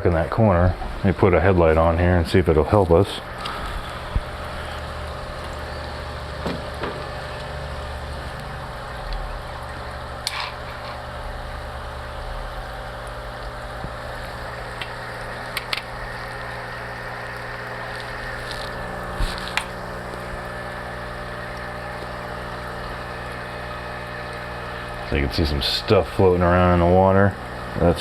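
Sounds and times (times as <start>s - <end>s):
low pump hum: 0.0s - 28.0s
water hissing through pipes: 0.0s - 28.0s.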